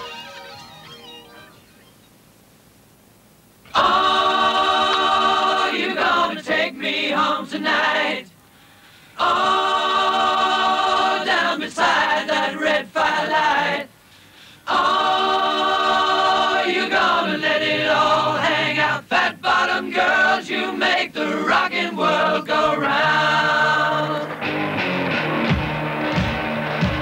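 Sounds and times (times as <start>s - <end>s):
choir singing held chords: 3.6s - 27.0s.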